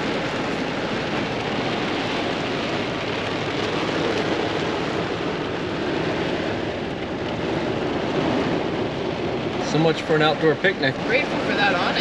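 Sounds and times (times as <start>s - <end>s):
heavy rain on windshield: 0.0s - 12.0s.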